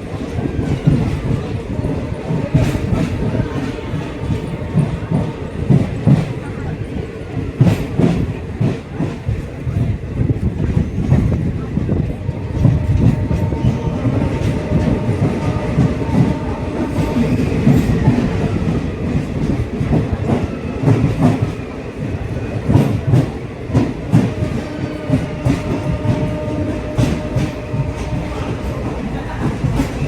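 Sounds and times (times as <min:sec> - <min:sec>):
train wheels clattering: 0:00.0 - 0:30.0.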